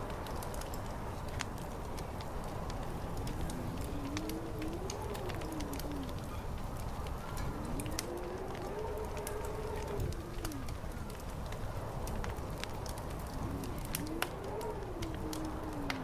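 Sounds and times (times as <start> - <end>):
fire crackling and popping: 0.0 - 16.0
howling wind: 0.0 - 16.0.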